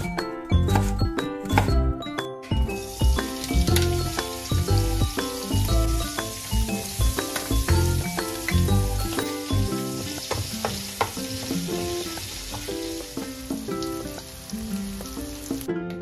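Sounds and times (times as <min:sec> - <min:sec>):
background piano music: 0:00.0 - 0:16.0
onion and bacon sizzling: 0:02.5 - 0:15.7.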